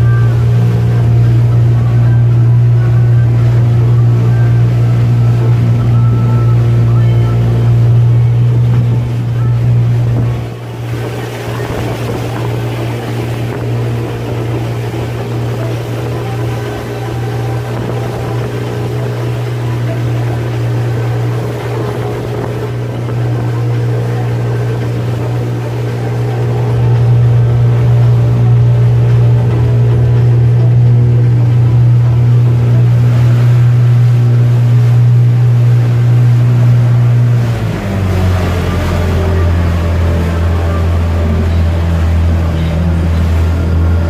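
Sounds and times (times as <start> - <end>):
motorboat engine humming: 0.0 - 44.0
water and wind rushing: 0.0 - 44.0.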